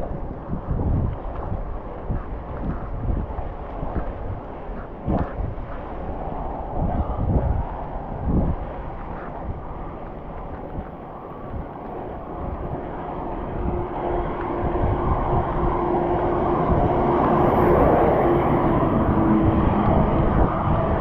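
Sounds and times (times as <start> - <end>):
bike road noise: 0.0 - 21.0
vehicle engine hum: 0.0 - 21.0
wind noise: 0.0 - 21.0.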